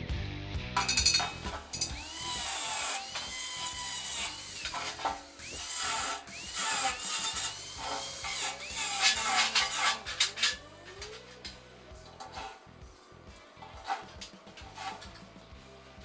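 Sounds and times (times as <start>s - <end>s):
power tool running in spurts: 0.8s - 16.0s.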